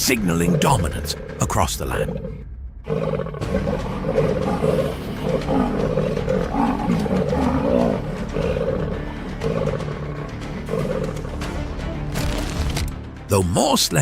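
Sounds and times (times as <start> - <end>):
lion roaring: 0.0 - 11.4.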